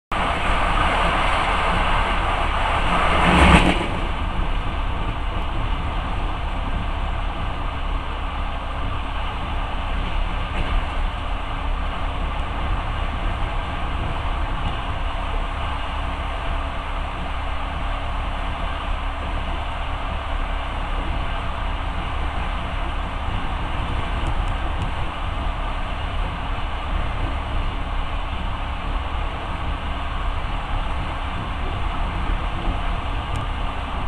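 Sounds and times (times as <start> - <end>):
rush of noise: 0.1 - 34.0
train rumble inside carriage: 0.1 - 34.0.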